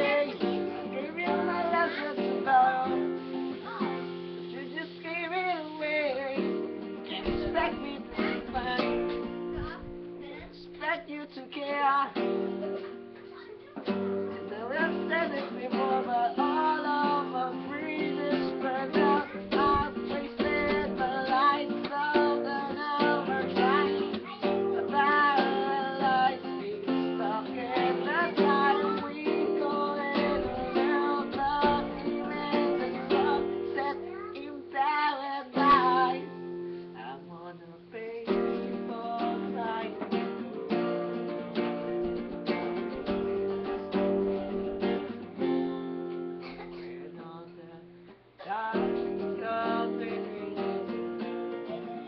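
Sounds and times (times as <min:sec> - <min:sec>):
acoustic guitar strumming chords: 0:00.0 - 0:52.0.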